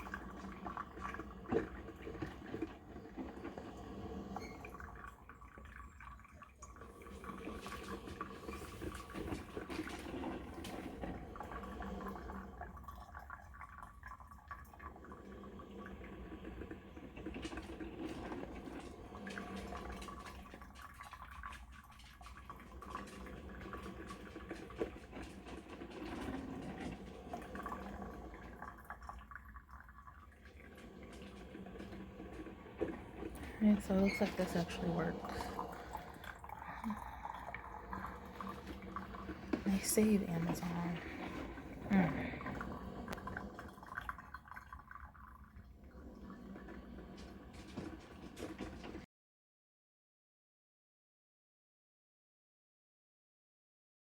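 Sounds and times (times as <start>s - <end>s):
coffee maker water gurgling: 0.0s - 49.1s.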